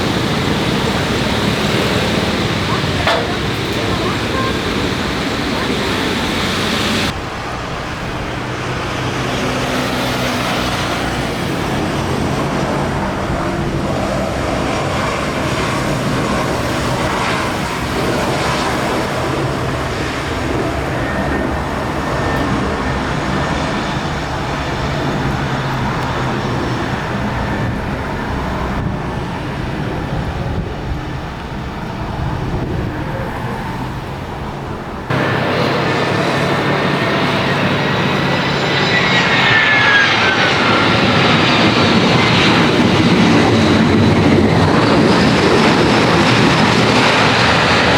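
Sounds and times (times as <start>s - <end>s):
vehicle rumble: 0.0s - 47.9s.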